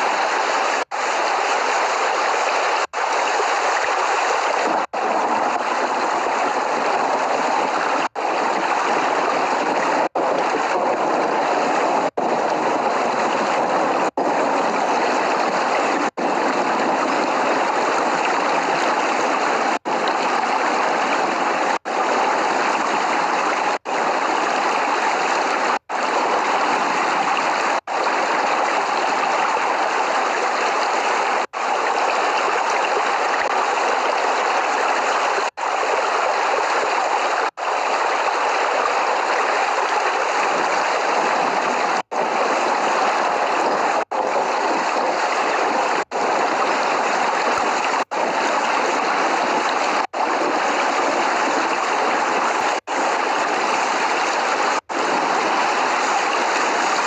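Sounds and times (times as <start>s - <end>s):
rain rushing: 0.0s - 57.0s.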